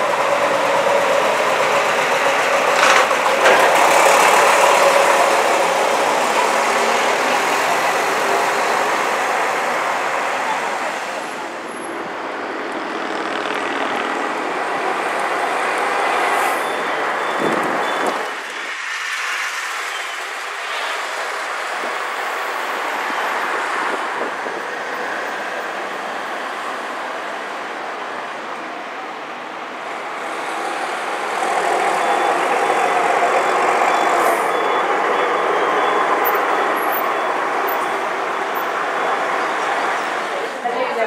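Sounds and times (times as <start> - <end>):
buses driving past: 0.0 - 41.0
tyre and road noise: 0.0 - 41.0.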